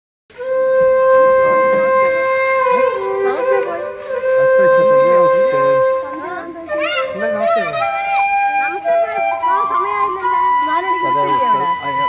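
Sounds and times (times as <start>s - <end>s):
wind instrument long note: 0.3s - 12.0s.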